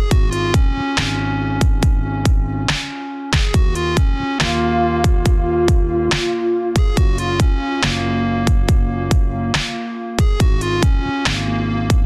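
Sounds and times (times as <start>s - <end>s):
heavy kick-drum beat: 0.0s - 2.8s, 3.4s - 12.0s
electronic music: 0.0s - 12.0s
sustained synth notes: 0.0s - 12.0s.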